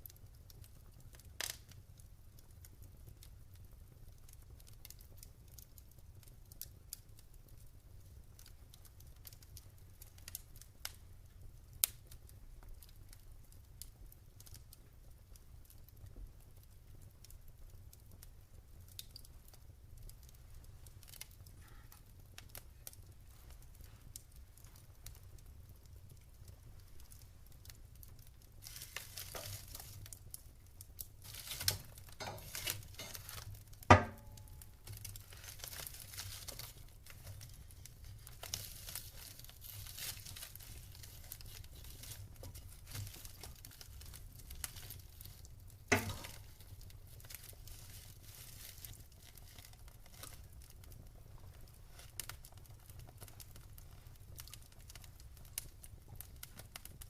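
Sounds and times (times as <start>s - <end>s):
sharp pops of burning wood: 0.0s - 14.9s, 15.7s - 57.0s
wood fire crackling: 0.0s - 57.0s.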